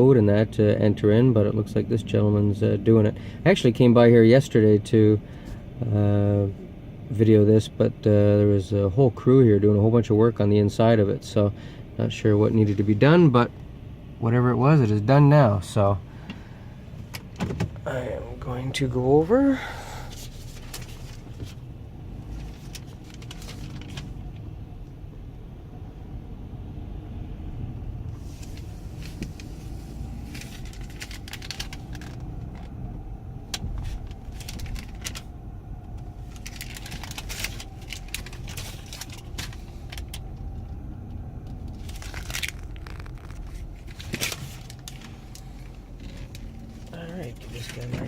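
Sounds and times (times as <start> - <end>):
engine and road rumble: 0.0 - 48.0.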